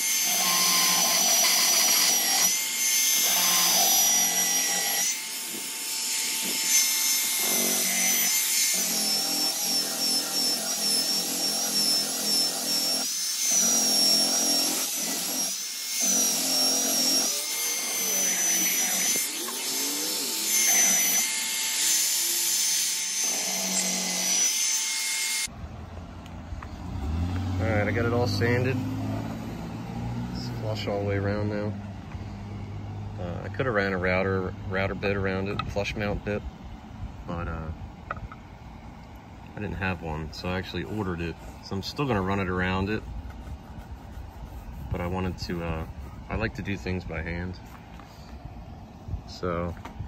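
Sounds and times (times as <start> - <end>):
electric sander whining and grinding: 0.0 - 25.5, 26.2 - 36.2, 39.6 - 48.6.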